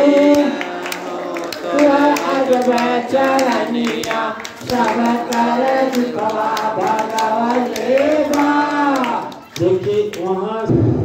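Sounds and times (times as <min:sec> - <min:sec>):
congregation clapping: 0:00.0 - 0:10.7
devotional song over loudspeakers: 0:00.0 - 0:11.0.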